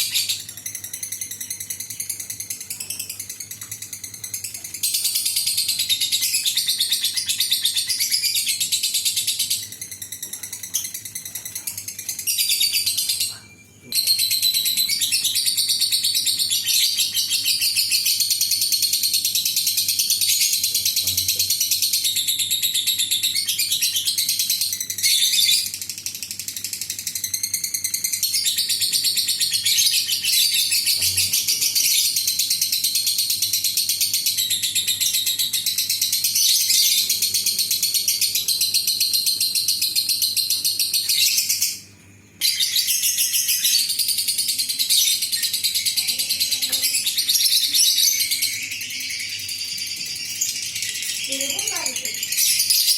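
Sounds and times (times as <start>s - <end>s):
lovebird chattering song: 0.0s - 41.8s, 42.4s - 52.9s.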